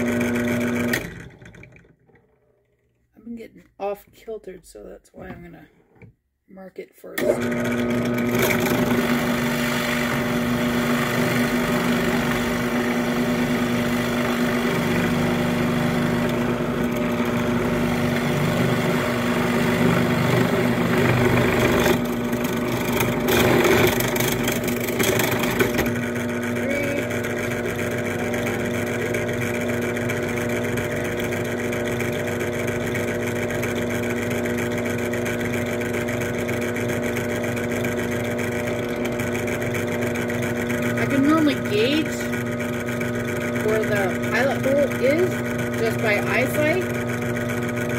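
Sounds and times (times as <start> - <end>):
drill press motor humming: 0.0 - 3.0, 7.2 - 47.9
drill bit cutting wood: 7.2 - 47.9.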